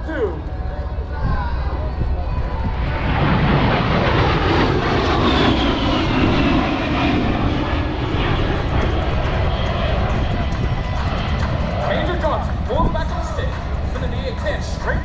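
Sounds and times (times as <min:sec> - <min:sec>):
jet aircraft passing: 0:00.0 - 0:15.0.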